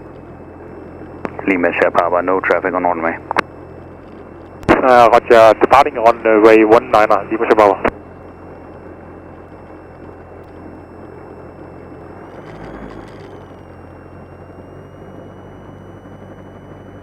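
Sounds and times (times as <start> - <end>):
airplane engine and propeller: 0.0 - 17.0
faint higher tone: 0.0 - 17.0.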